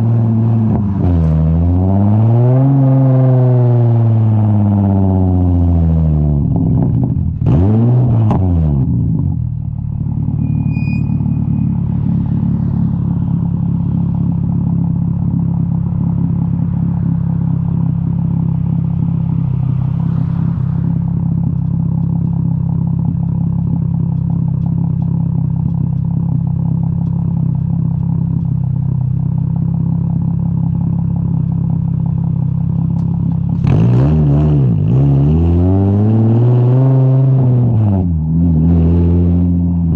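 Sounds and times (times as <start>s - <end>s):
car exhaust revving and idling: 0.0s - 39.9s.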